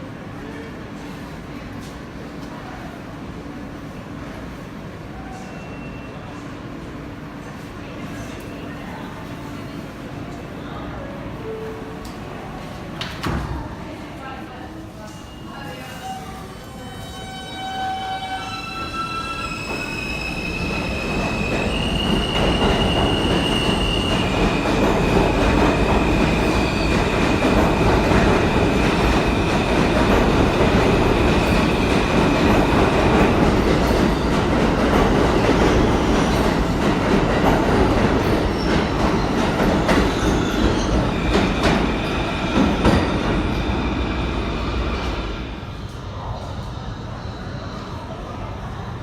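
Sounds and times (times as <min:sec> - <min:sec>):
subway train wheels rumbling: 0:00.0 - 0:49.0.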